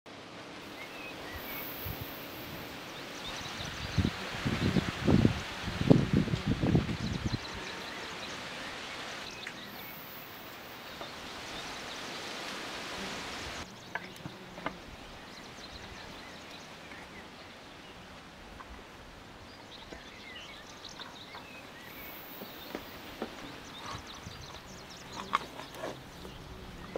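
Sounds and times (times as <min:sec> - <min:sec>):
rustling hiss: 0:00.1 - 0:26.9.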